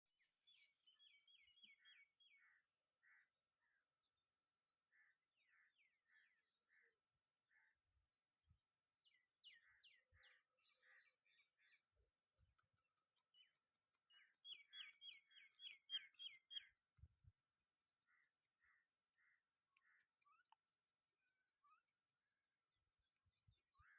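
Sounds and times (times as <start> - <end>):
songbird chirping: 0.2 - 23.9.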